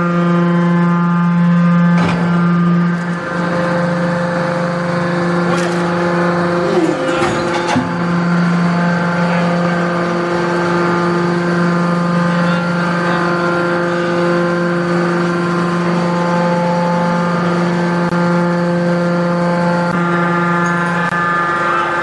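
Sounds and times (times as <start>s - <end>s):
hydraulic power unit humming: 0.0s - 22.0s.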